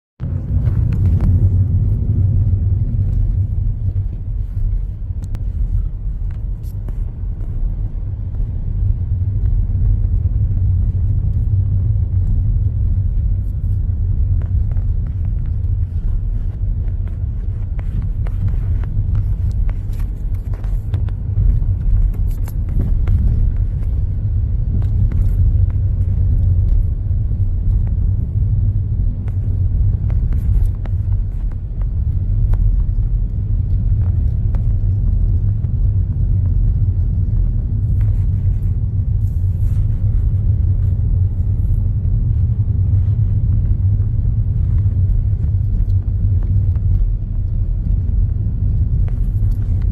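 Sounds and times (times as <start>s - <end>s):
tyres and engine rumbling: 0.2s - 49.9s.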